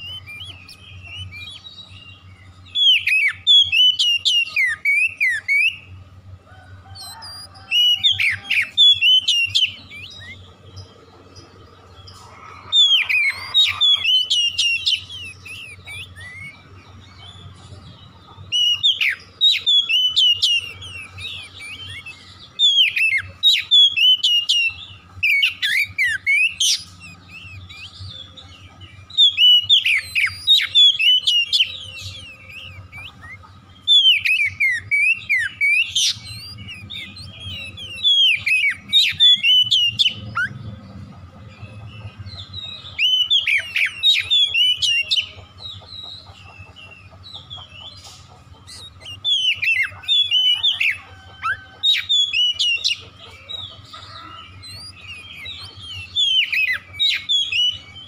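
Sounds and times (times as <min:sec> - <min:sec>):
bird singing whistles and trills: 0:00.0 - 0:06.0, 0:06.9 - 0:58.0.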